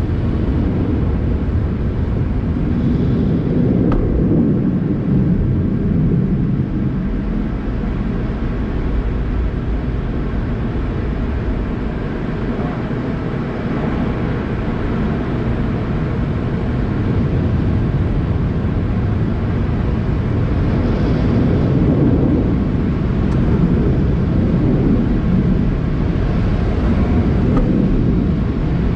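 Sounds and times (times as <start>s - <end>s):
car wash machinery rumbling: 0.0s - 28.9s.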